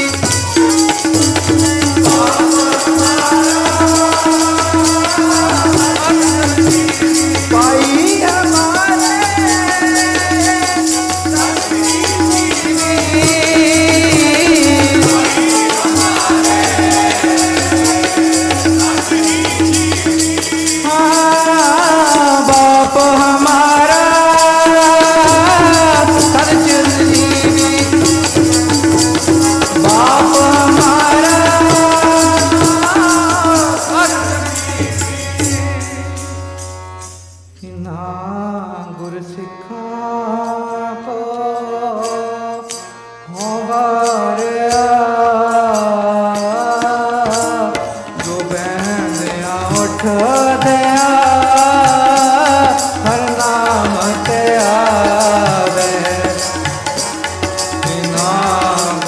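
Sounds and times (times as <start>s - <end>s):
fast rattling percussion: 0.0s - 37.2s, 46.3s - 59.0s.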